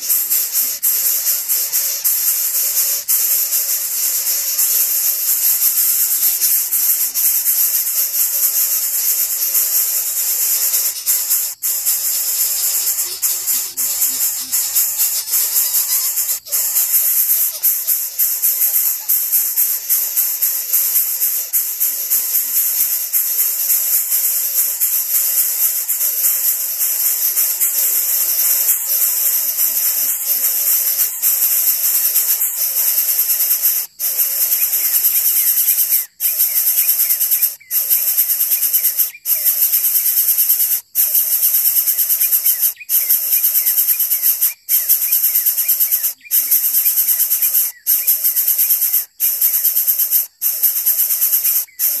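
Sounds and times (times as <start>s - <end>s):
insects droning buzz: 0.0s - 52.0s.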